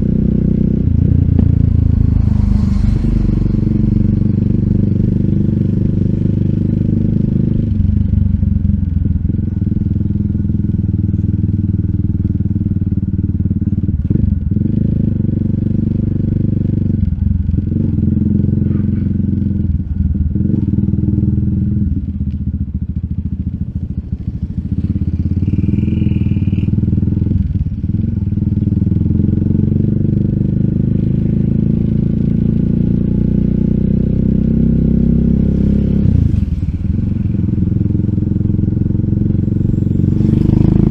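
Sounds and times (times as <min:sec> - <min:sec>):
single-cylinder motorcycle engine: 0:00.0 - 0:40.9.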